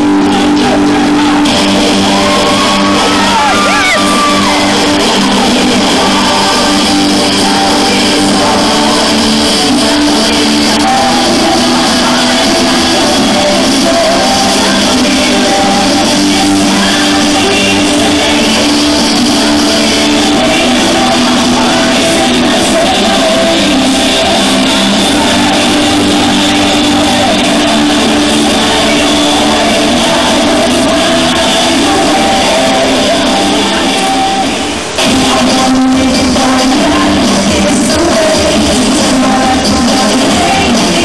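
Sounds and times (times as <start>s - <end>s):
pop-rock song with male singer: 0.0s - 41.0s.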